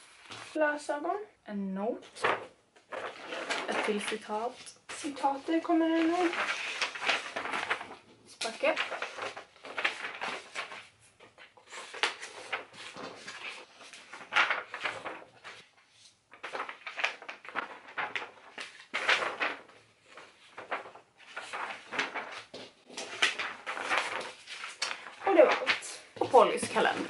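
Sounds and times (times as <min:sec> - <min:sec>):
paper rustling and crinkling: 0:00.0 - 0:00.6, 0:02.0 - 0:27.0.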